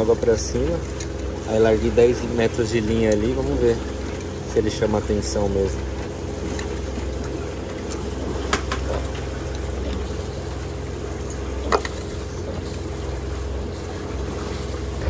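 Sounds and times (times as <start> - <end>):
boat diesel engine humming: 0.0 - 15.0.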